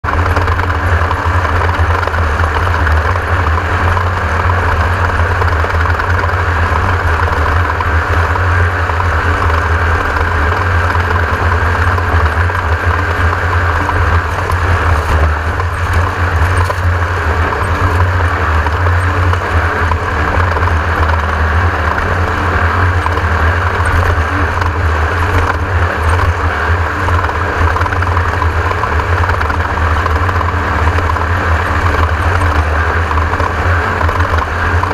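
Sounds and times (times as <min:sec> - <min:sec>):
race car engine running: 0:00.0 - 0:34.9.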